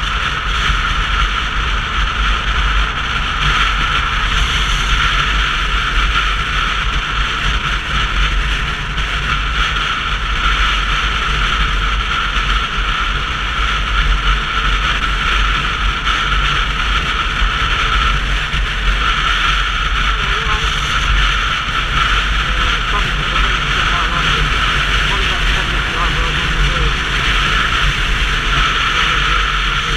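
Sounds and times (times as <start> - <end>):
motorcycle road noise rumble: 0.0 - 29.9
wind noise on microphone: 0.0 - 29.9.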